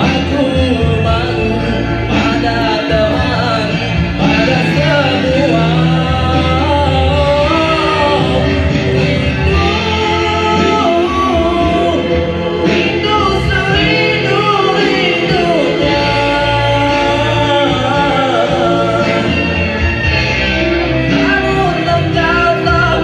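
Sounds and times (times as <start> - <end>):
man singing pop ballad: 0.0 - 20.1, 20.7 - 23.0
backing music: 0.0 - 23.0.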